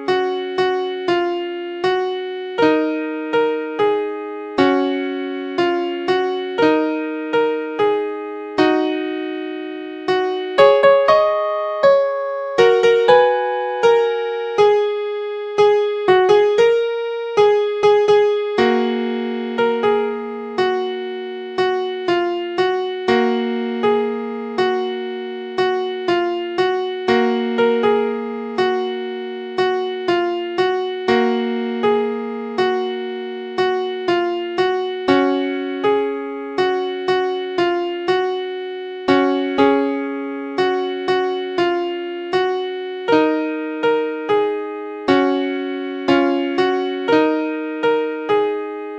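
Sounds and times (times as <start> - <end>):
electric piano melody: 0.0 - 48.9.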